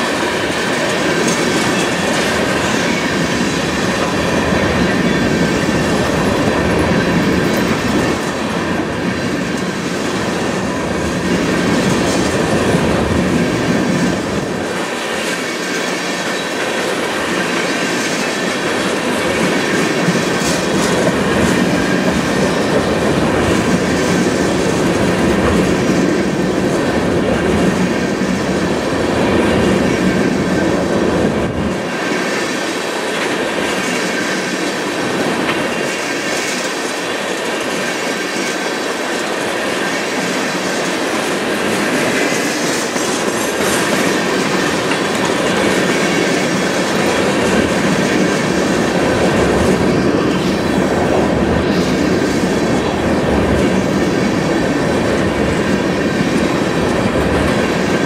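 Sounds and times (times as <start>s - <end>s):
train wheels on steel bridge: 0.0s - 58.0s.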